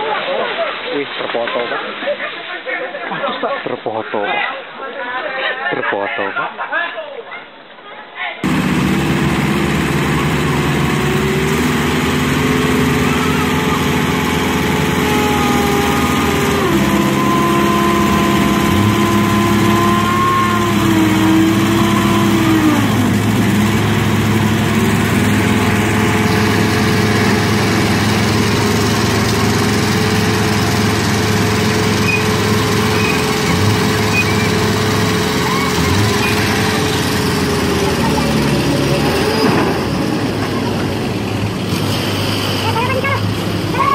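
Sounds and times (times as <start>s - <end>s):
crane engine running under load: 8.4s - 43.9s.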